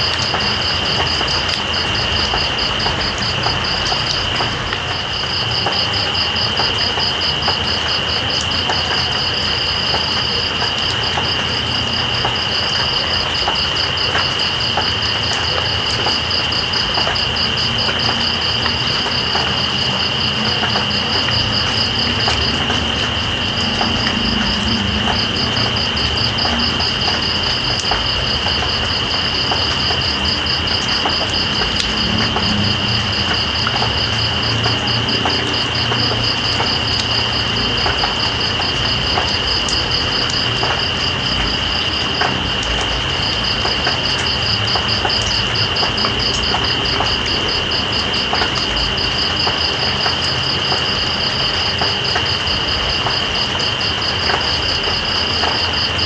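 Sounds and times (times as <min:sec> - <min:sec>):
rain drop ticks: 0:00.0 - 0:56.0
steady rain: 0:00.0 - 0:56.0.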